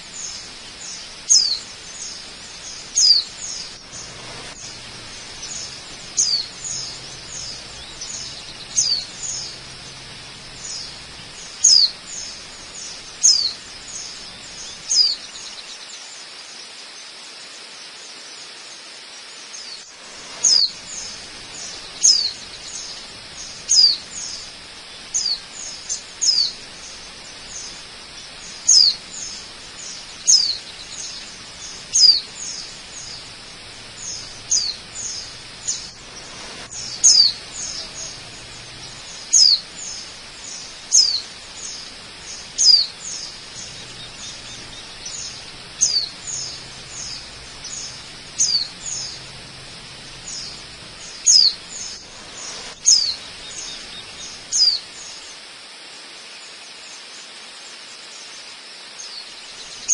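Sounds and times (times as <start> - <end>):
bird chirping: 0.0 - 16.1, 19.5 - 55.4, 59.0 - 59.9
waterfall rushing: 0.0 - 59.9.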